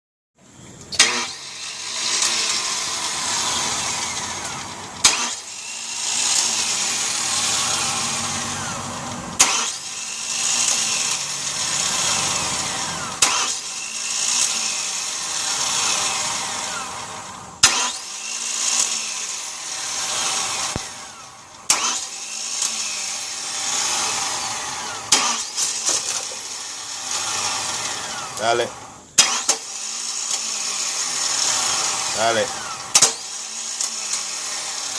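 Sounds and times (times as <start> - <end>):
starter motor cranking engine: 0.6 - 34.9.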